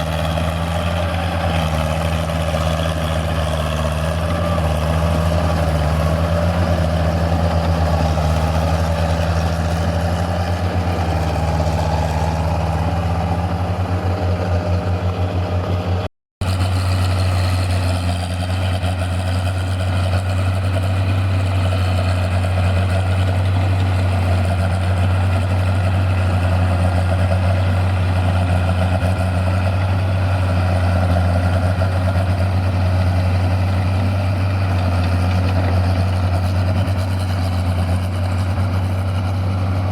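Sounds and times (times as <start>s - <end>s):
tractor engines humming: 0.0s - 39.9s.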